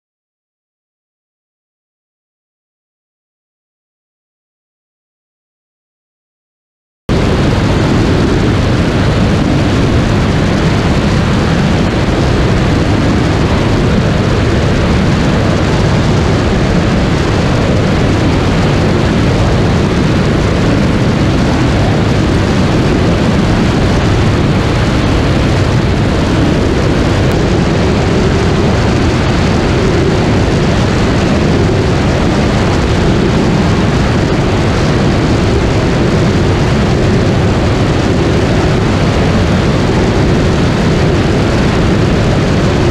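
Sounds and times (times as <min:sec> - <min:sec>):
aircraft engine droning: 0:07.1 - 0:42.9
wind rushing over microphone: 0:07.1 - 0:42.9.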